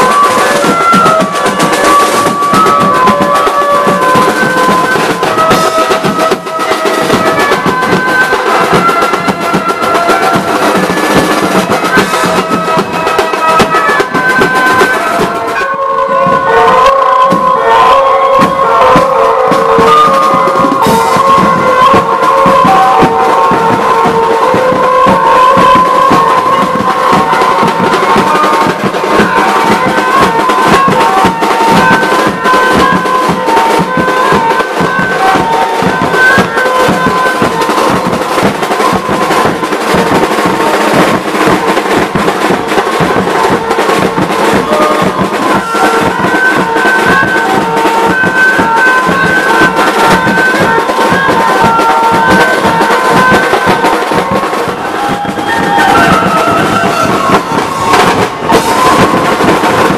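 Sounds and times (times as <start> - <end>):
drums beating fast: 0.0 - 59.9
high melody line: 0.0 - 59.9.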